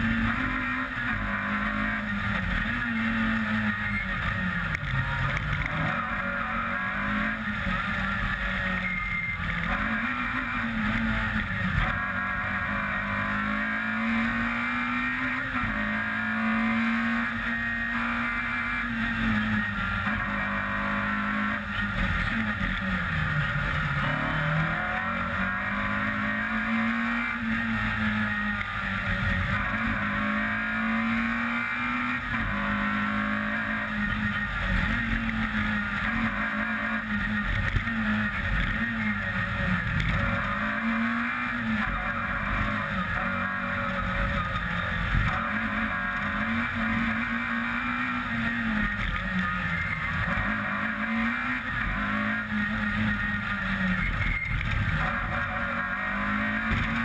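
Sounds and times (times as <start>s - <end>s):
rally car engine revving: 0.0s - 57.0s
road and wind noise: 0.0s - 57.0s.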